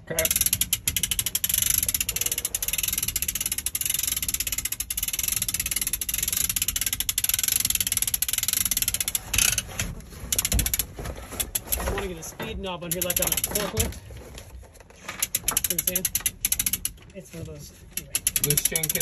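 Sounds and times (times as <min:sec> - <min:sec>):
rapid ratchet clicks: 0:00.0 - 0:12.1, 0:12.8 - 0:14.0, 0:15.2 - 0:17.2, 0:17.8 - 0:19.0.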